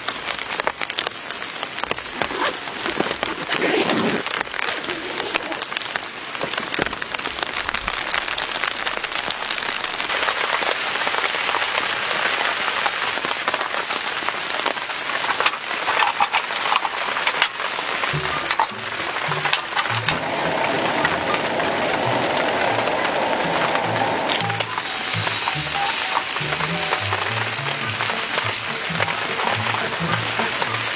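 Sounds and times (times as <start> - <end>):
rain pattering on tent: 0.0 - 30.9.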